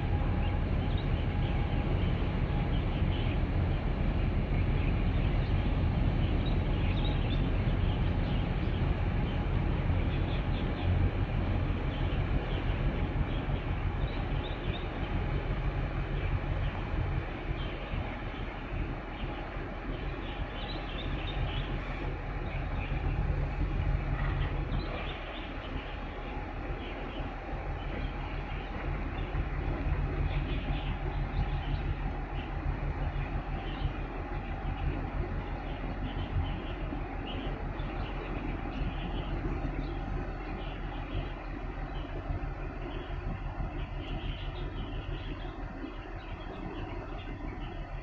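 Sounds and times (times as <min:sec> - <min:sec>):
ship rumbling and rushing: 0:00.0 - 0:48.0
wind noise: 0:00.0 - 0:48.0.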